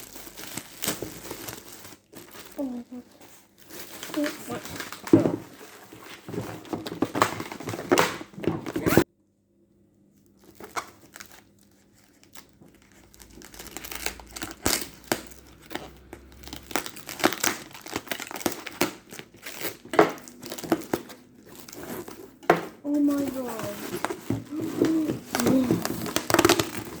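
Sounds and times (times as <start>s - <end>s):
packaging crinkling and tearing: 0.0s - 9.0s, 10.2s - 27.0s.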